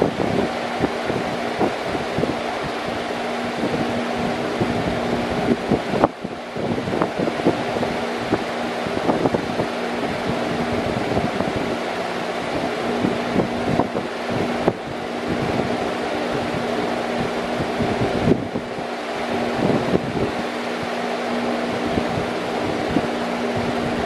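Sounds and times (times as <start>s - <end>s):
electric fan running: 0.0s - 24.0s.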